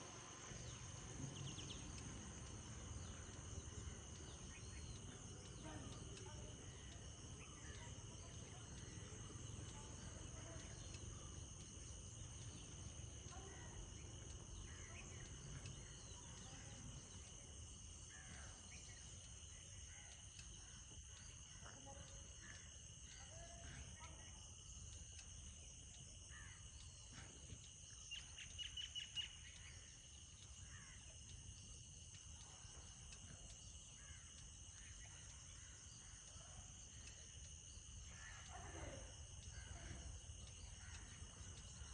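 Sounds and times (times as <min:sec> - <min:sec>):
insect drone: 0:00.0 - 0:41.9
pulsing insect trill: 0:00.0 - 0:41.9
bird chirps: 0:00.3 - 0:41.9.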